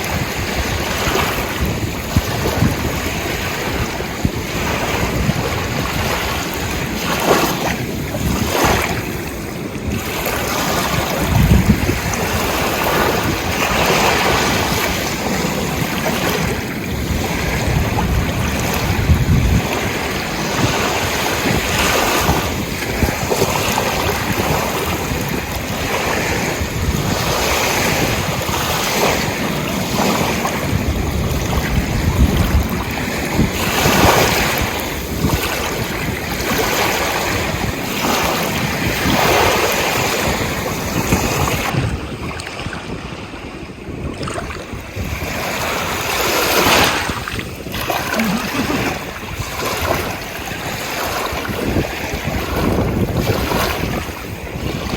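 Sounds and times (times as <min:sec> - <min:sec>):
ocean waves breaking: 0:00.0 - 0:54.9
wind buffeting microphone: 0:00.0 - 0:54.9.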